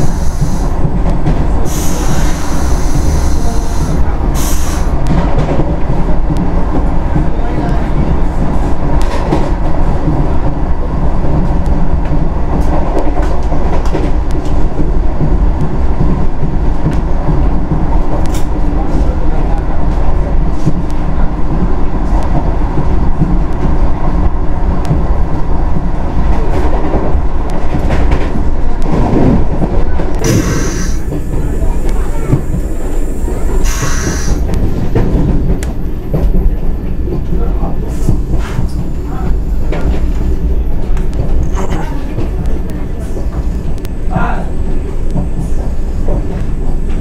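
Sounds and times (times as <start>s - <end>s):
rail joint clicks: 0.0s - 47.0s
train wheels rumbling on track: 0.0s - 47.0s.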